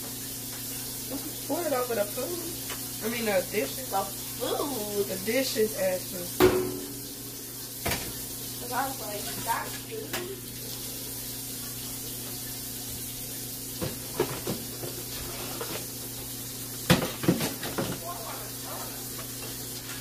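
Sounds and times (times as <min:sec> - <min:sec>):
faucet running into steel sink: 0:00.0 - 0:20.0.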